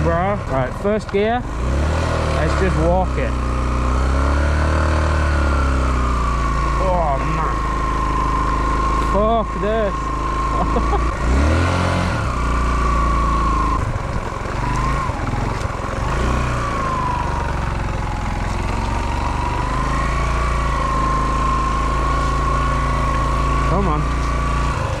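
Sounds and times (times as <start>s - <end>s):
dirt bike engine running slowly: 0.0s - 25.0s.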